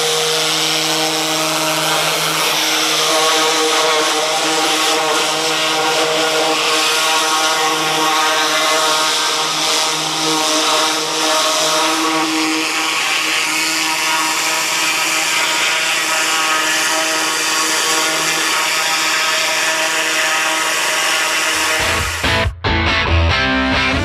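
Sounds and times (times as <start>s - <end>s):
machine humming: 0.0s - 22.6s.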